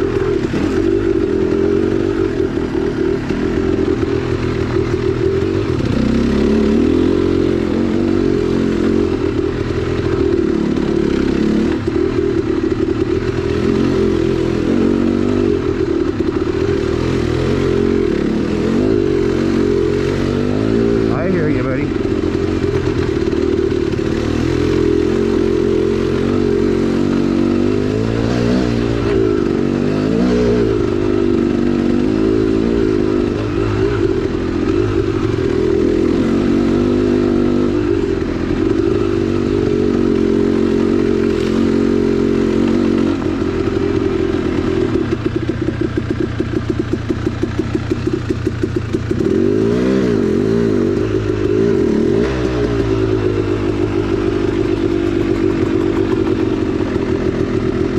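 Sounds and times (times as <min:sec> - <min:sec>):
dirt bike engine revving: 0:00.0 - 0:45.5, 0:47.6 - 0:57.9.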